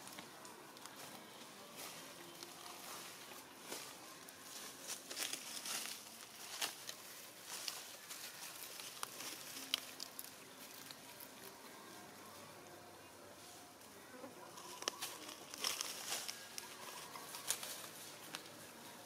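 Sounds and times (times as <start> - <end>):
twigs crackling and snapping: 0.0 - 11.6, 14.5 - 18.6
dry leaves rustling: 0.0 - 12.4, 14.4 - 19.0.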